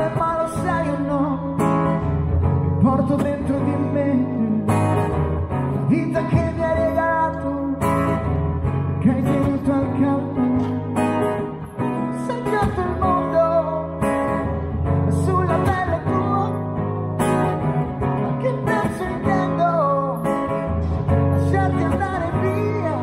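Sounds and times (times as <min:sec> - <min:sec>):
acoustic guitar strumming: 0:00.0 - 0:23.0
man singing: 0:00.0 - 0:23.0.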